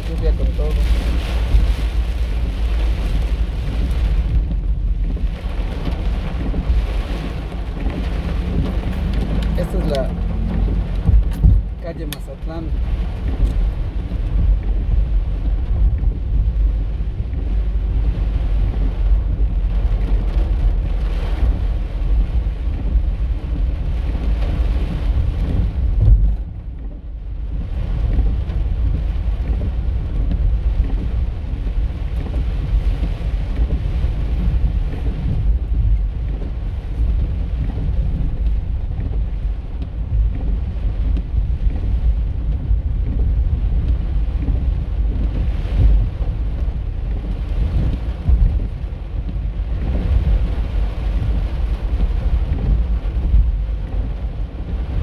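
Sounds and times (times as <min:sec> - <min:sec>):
car and tyres rumbling: 0:00.0 - 0:55.0
heavy rain on a car: 0:00.0 - 0:55.0.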